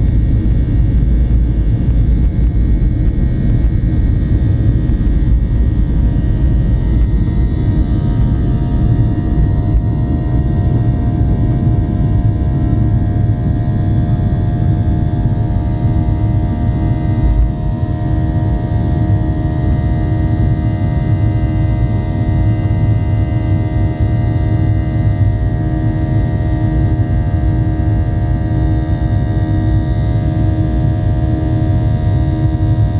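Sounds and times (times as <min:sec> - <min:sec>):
droning engine fan tones: 0:00.0 - 0:32.9
jet engine rumble in cabin: 0:00.0 - 0:32.9.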